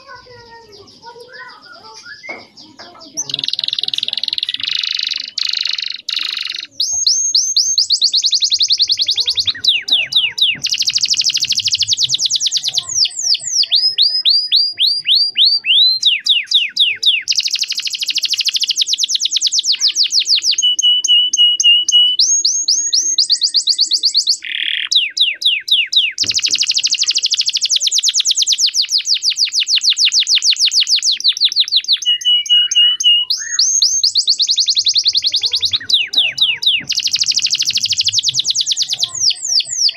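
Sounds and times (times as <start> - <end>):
canary singing: 0.0 - 39.9
steady bird whistles: 1.2 - 2.7, 3.5 - 39.9.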